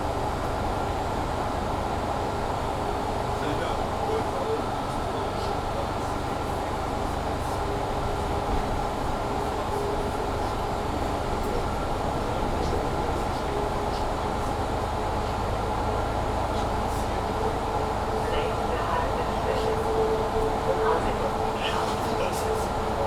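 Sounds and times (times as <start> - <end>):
bus engine and rolling rumble: 0.0 - 23.0.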